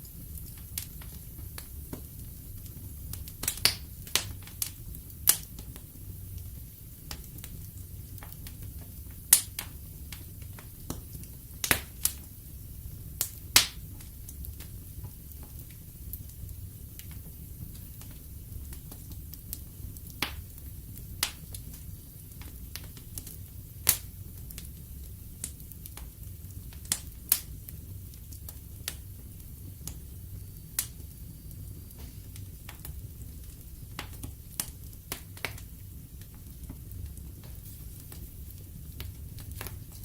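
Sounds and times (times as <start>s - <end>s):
low rumble of flames: 0.0s - 40.0s
logs crackling and popping: 0.1s - 40.0s.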